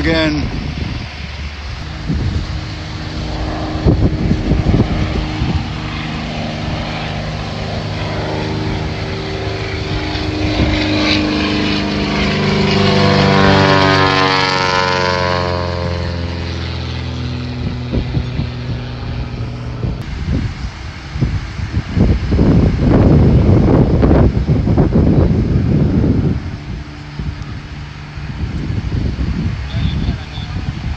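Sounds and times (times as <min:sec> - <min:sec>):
propeller airplane flying past: 0:00.0 - 0:30.9.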